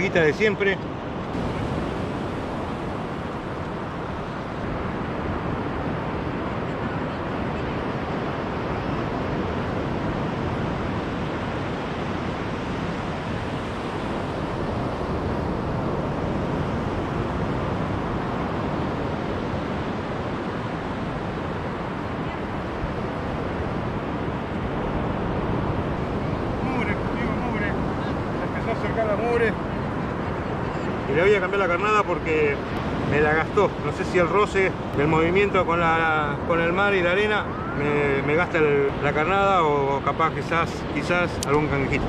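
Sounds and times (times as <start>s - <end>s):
wind on microphone: 0.0s - 42.0s
surf breaking on beach: 0.5s - 42.0s.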